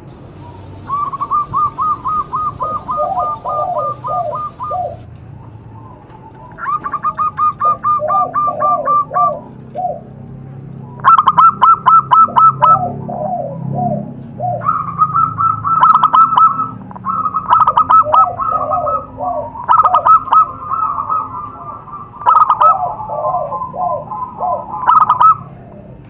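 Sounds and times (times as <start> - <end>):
doves cooing: 0.0 - 10.2, 10.8 - 26.0.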